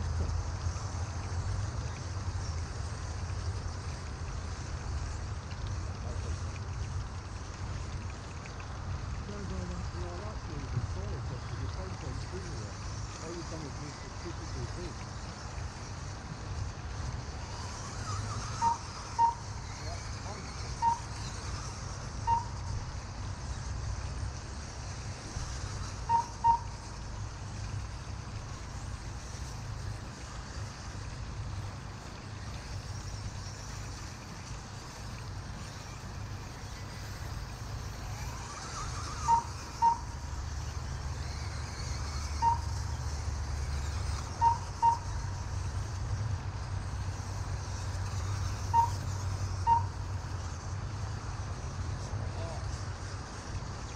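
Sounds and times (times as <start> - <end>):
background hiss: 0.0 - 53.9
faint high whine of cars: 0.0 - 53.9.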